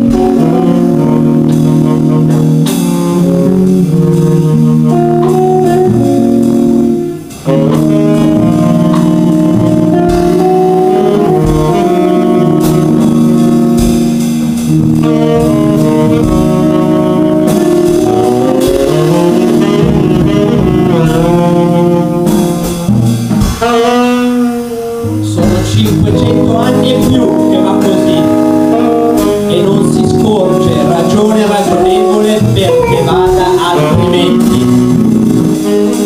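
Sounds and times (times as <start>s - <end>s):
small band playing: 0.0s - 36.0s
tenor saxophone playing jazz: 0.0s - 36.0s.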